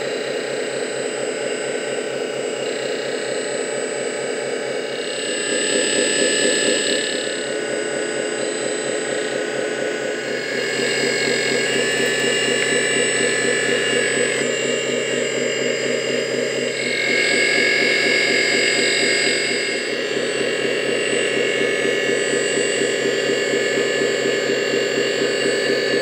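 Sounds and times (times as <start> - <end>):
electric pump whining and buzzing: 0.0 - 26.0.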